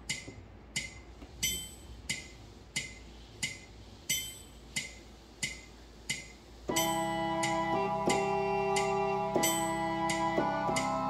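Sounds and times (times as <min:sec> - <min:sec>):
metronome ticking: 0:00.0 - 0:11.0.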